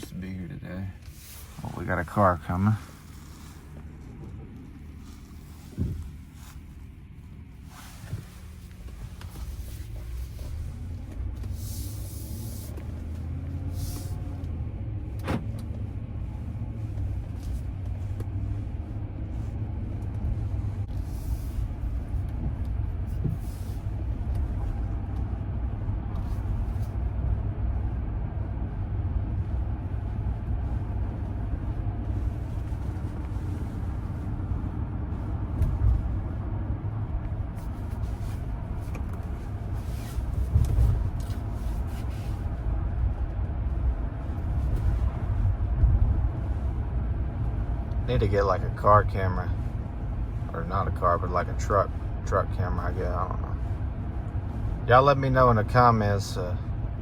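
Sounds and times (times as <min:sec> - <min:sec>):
road noise: 0:00.0 - 0:57.0
truck engine rumble: 0:00.0 - 0:57.0.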